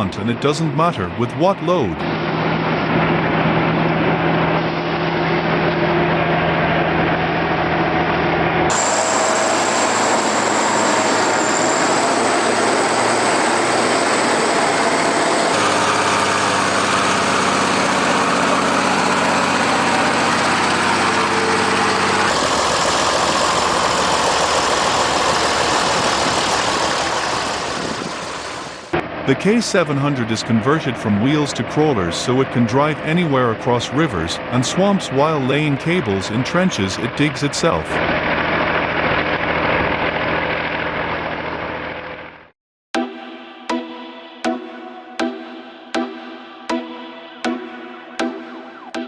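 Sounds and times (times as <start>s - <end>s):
heavy diesel engine running: 0.0s - 42.5s.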